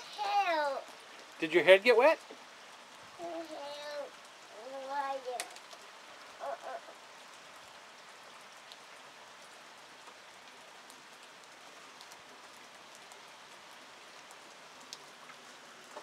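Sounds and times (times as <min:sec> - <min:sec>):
faint rain falling: 0:00.0 - 0:16.0.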